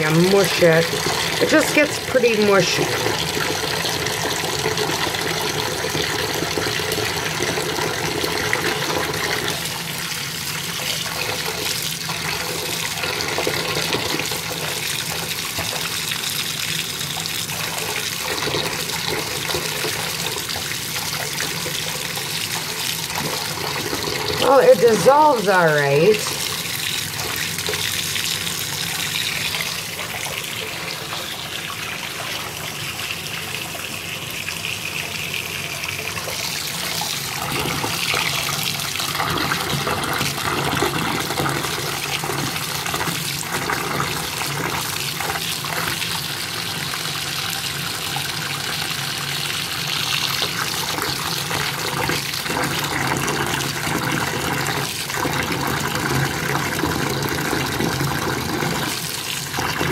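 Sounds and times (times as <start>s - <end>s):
tap water running into tub: 0.0s - 59.9s.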